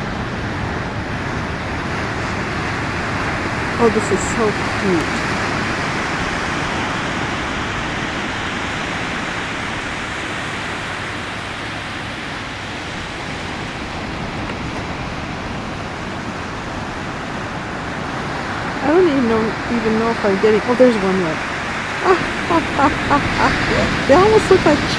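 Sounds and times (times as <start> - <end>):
steady rushing noise: 0.0 - 24.9.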